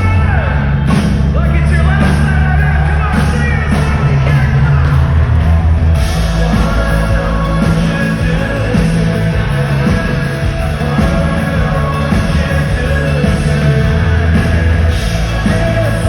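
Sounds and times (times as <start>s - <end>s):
person singing: 0.0s - 16.0s
rock band playing loudly: 0.0s - 16.0s.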